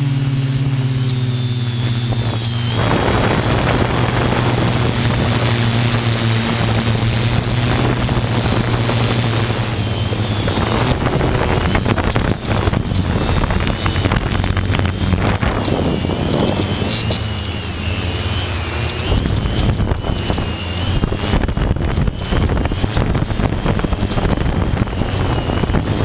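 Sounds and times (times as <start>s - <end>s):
drone propellers humming: 0.0s - 26.0s
wind noise on microphone: 0.0s - 26.0s.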